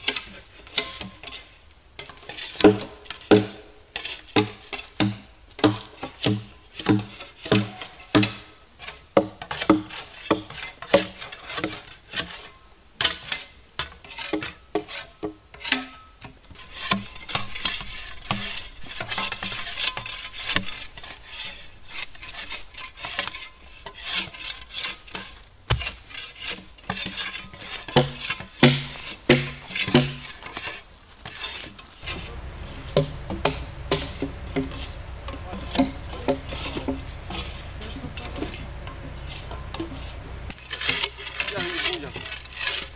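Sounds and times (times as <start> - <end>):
shovels scraping bark off logs: 0.0 - 42.9.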